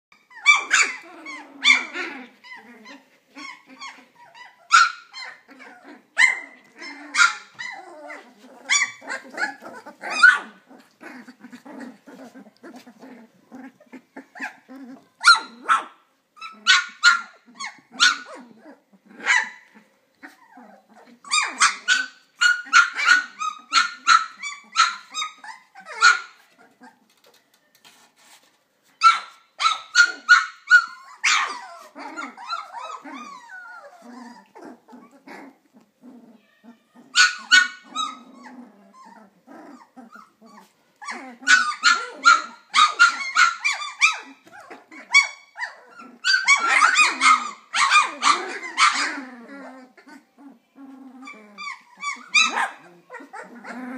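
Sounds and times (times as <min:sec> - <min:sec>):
puppies squeaking: 0:00.1 - 0:15.8, 0:16.4 - 0:28.0, 0:29.0 - 0:35.5, 0:36.8 - 0:50.4, 0:51.1 - 0:53.9
puppies yapping: 0:00.1 - 0:27.4, 0:29.0 - 0:35.7, 0:37.1 - 0:50.2, 0:51.2 - 0:53.9.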